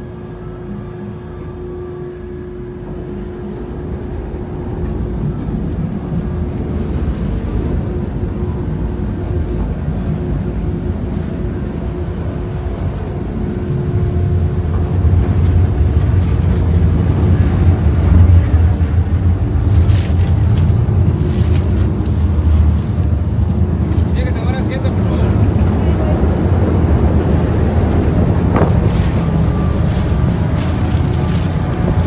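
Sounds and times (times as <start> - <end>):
ferry engines rumbling: 0.0 - 32.0.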